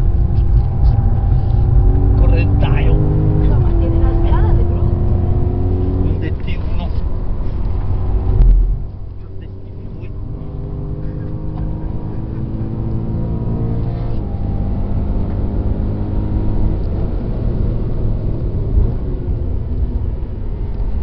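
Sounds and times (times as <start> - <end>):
car engine accelerating hard: 0.0 - 21.0
road noise: 0.0 - 21.0.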